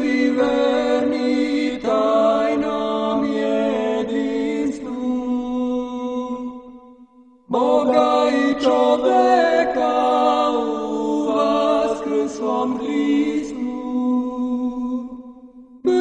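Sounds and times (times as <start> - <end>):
group chanting a cappella: 0.0 - 6.6, 7.5 - 16.0.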